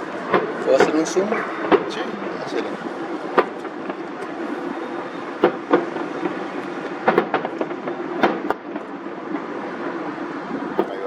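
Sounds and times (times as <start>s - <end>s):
fireworks bangs: 0.0s - 11.0s
rumbling din: 0.0s - 11.0s.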